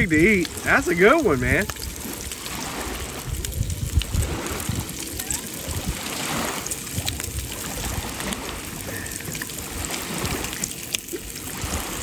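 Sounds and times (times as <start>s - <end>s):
small waves lapping: 0.0s - 12.0s
wind rumble on microphone: 0.0s - 12.0s.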